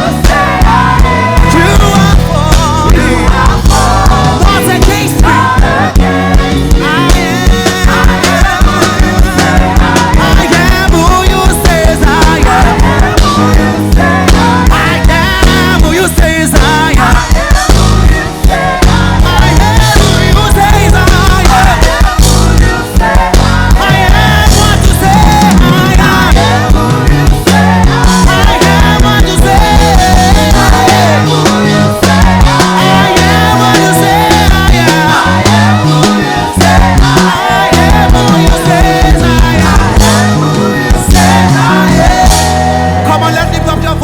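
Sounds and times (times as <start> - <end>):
heavy bass line: 0.0 - 44.0
steady drum beat: 0.0 - 44.0
worship band playing: 0.0 - 44.0.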